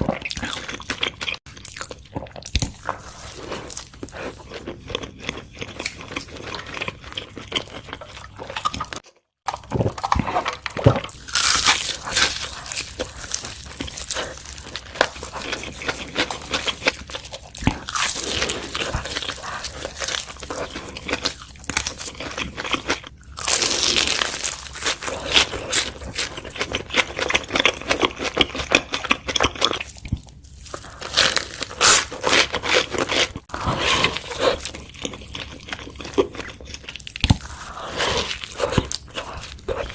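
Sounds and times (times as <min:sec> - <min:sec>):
chewing: 0:00.0 - 0:39.9
crunchy bites: 0:00.0 - 0:39.9.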